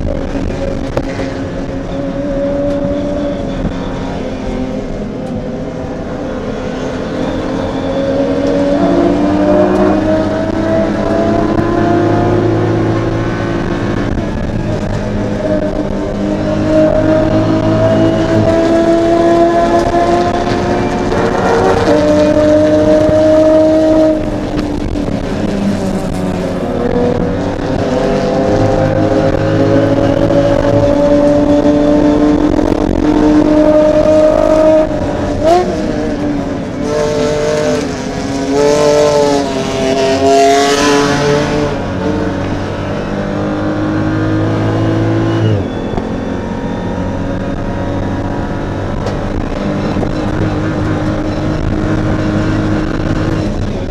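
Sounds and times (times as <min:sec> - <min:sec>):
race car engine accelerating: 0:00.0 - 0:53.9.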